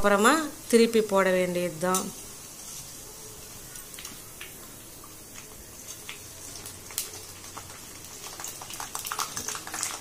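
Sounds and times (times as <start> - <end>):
food frying in bubbling oil: 0.0 - 10.0.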